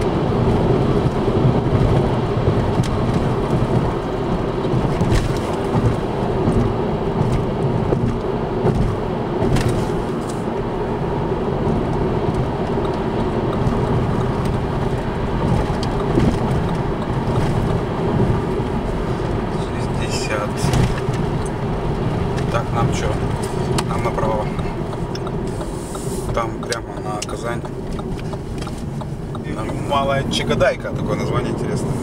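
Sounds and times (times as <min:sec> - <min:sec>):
car road noise from inside: 0:00.0 - 0:32.0.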